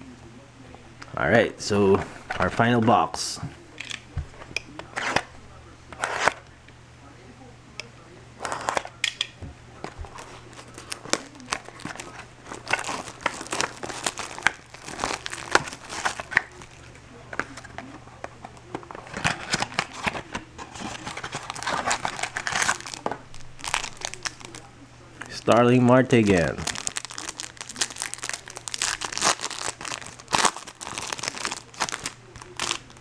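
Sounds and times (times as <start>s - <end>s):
plastic wrappers crinkling and tearing: 1.0s - 6.5s, 8.4s - 33.0s.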